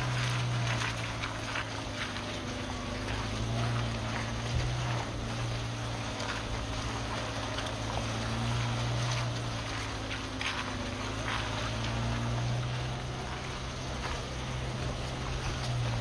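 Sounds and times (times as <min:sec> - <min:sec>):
car engine running: 0:00.0 - 0:16.0
tyres crunching over gravel: 0:00.0 - 0:16.0.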